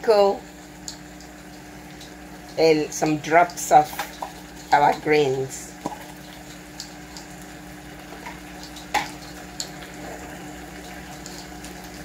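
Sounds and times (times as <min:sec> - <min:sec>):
stew simmering: 0:00.0 - 0:12.0.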